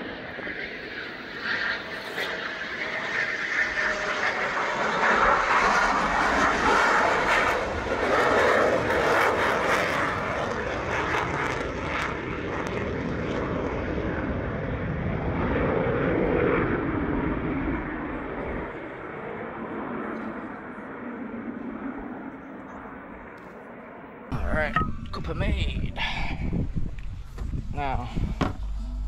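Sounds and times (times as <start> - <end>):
jet aircraft flying past: 0.0 - 29.0.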